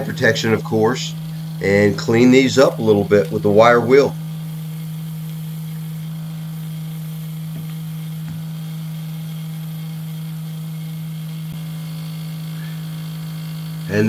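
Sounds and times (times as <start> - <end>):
bench grinder humming: 0.0 - 14.0.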